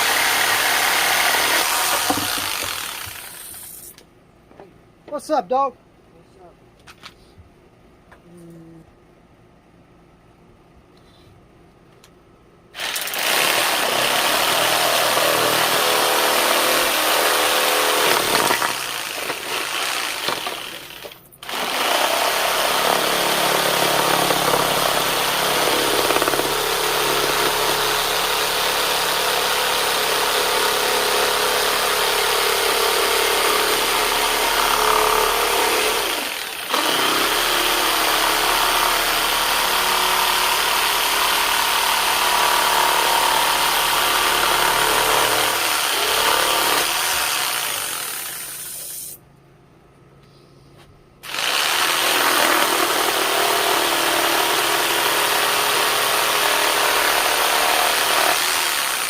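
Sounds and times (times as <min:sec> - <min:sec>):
power tool cutting wood: 0:00.0 - 0:03.9, 0:12.8 - 0:49.1, 0:51.2 - 0:59.0.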